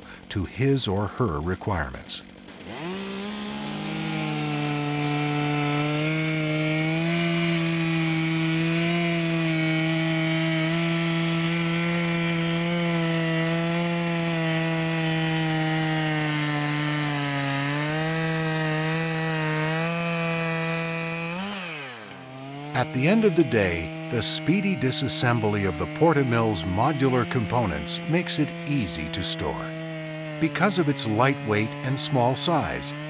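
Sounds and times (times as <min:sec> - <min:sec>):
chainsaw cutting through log: 0:00.0 - 0:33.0.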